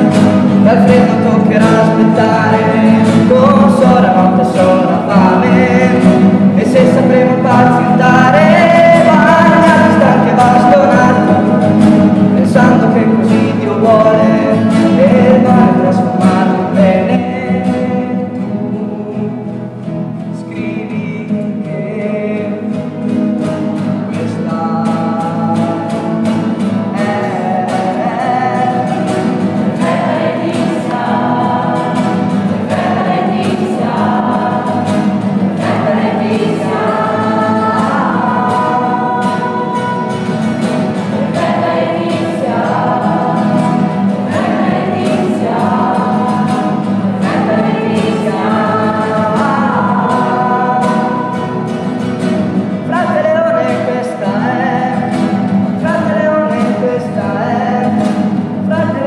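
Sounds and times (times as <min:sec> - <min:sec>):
choir singing with instruments: 0:00.0 - 0:19.7, 0:22.4 - 0:57.2.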